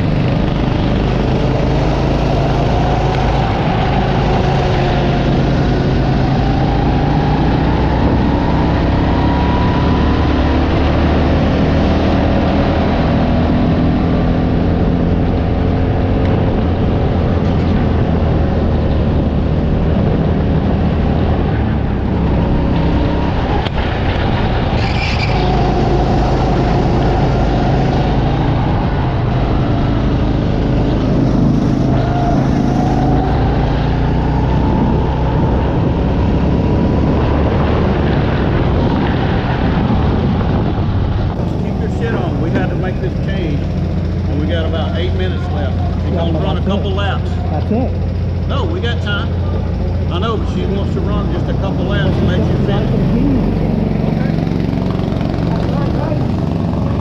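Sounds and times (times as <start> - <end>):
go-kart motor running: 0.0 - 57.0
wind and track noise: 0.0 - 57.0.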